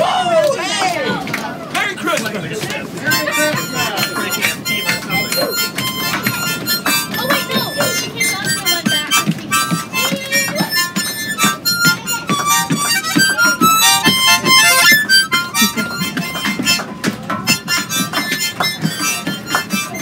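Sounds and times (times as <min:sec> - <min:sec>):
harmonica playing: 0:02.0 - 0:20.0.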